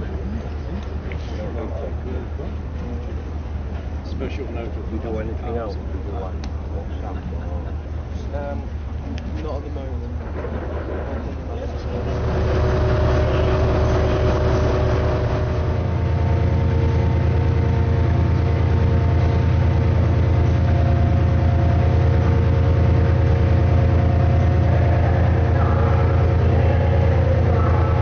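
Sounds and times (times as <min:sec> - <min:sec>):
diesel train engine humming: 0:00.0 - 0:28.0.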